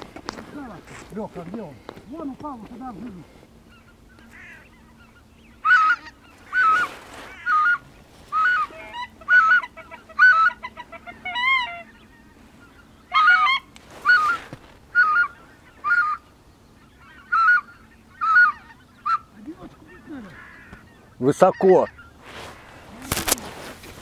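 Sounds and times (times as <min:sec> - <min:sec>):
goose honking: 0:00.4 - 0:23.4.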